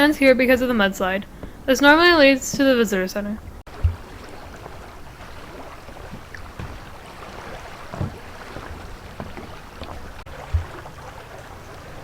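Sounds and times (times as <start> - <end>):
wind buffeting microphone: 0.0 - 12.0
short low thumps: 1.2 - 10.9.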